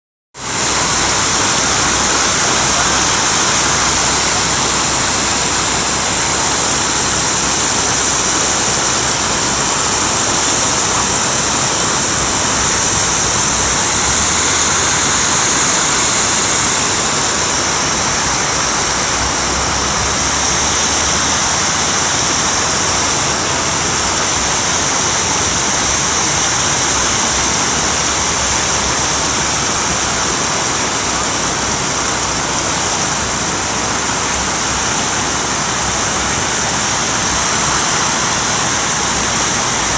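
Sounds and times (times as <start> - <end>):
water pouring over spillway: 0.4 - 39.9.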